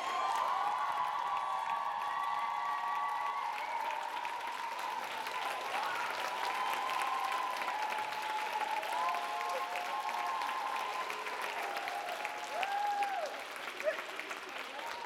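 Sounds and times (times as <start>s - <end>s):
cheers and screams: 0.0s - 14.0s
audience applauding: 0.0s - 15.0s.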